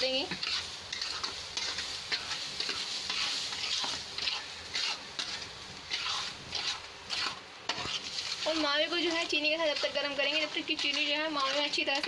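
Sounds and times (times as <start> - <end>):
spatula scraping a pan: 0.0 - 12.0.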